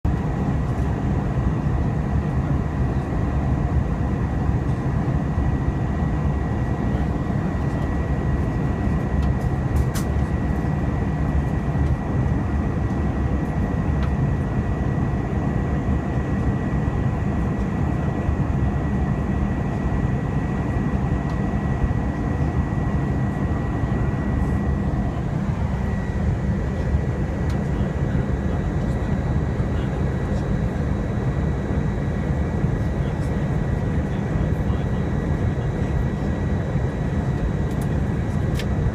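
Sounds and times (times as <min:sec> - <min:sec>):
aircraft cabin rumble: 0:00.1 - 0:38.9.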